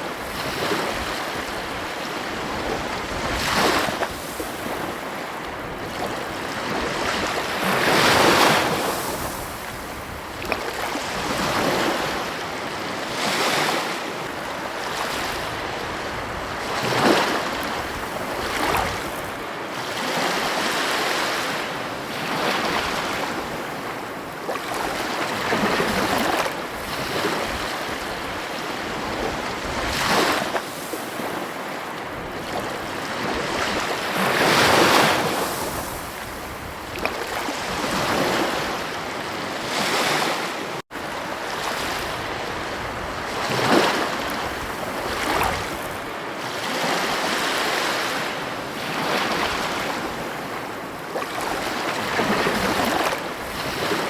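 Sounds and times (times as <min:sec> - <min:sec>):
ocean waves washing onto beach: 0:00.0 - 0:54.0.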